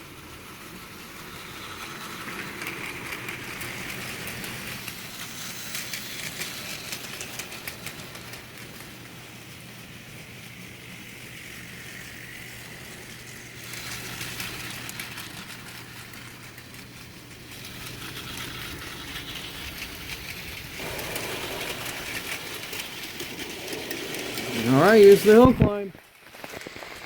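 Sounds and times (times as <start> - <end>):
toy train wheels clicking on track: 0.0 - 27.0.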